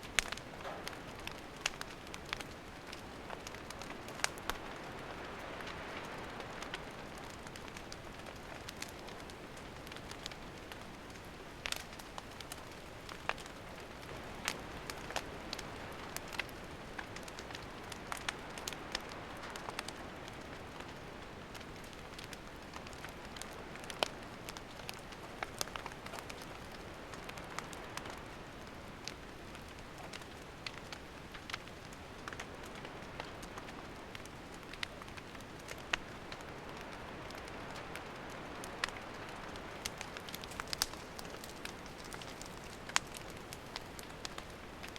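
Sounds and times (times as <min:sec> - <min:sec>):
campfire crackling and hissing: 0:00.0 - 0:44.9.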